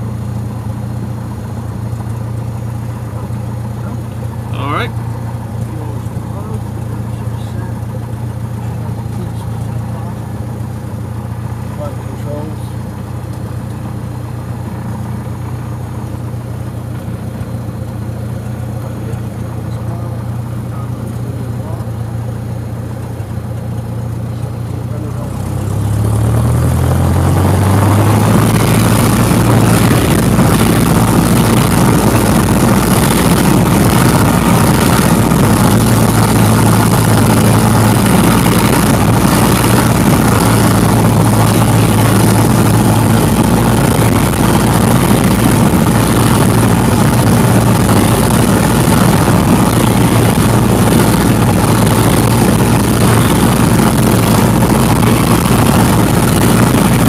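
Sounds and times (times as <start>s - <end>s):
propeller and airflow noise: 0.0s - 57.0s
propeller plane engine: 0.0s - 57.0s.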